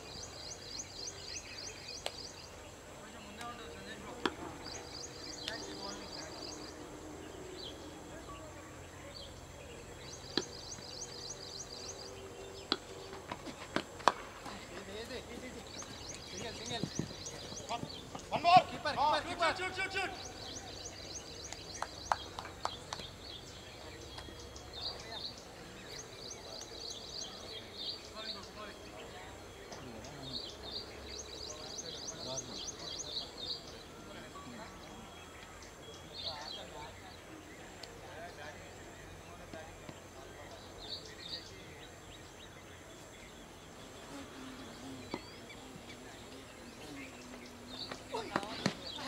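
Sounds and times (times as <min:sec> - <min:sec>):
background hiss: 0:00.0 - 0:49.0
birds chirping: 0:00.0 - 0:49.0.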